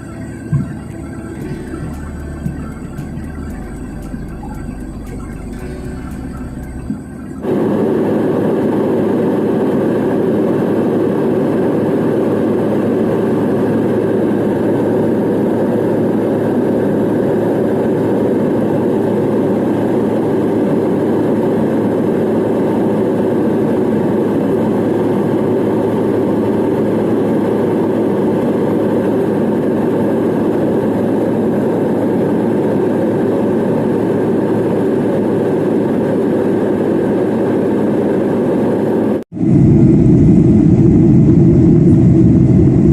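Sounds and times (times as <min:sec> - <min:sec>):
jet airliner cabin roar: 0:00.0 - 0:42.9.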